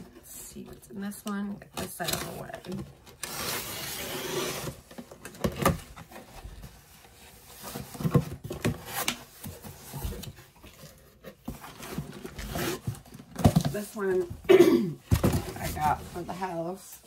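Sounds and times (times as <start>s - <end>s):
packaging rustling and scraping: 1.6s - 16.8s.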